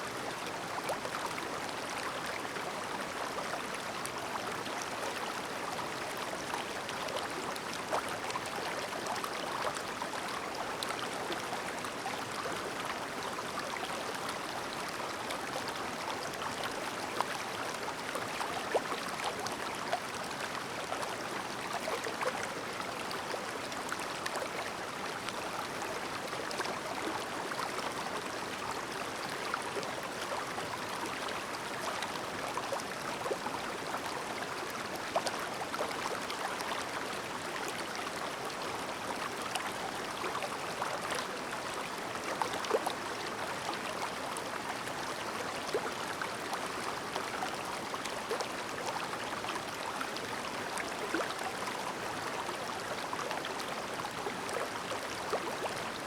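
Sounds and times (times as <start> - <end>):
stream babbling over rocks: 0.2 - 56.0.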